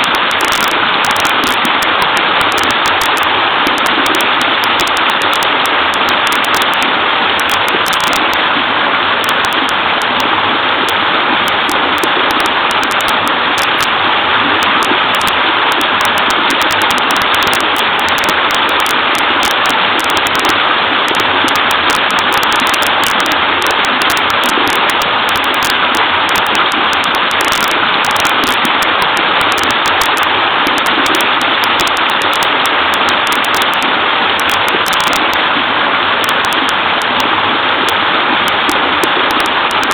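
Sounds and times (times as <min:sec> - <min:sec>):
waterfall splashing into stream: 0:00.0 - 0:39.9.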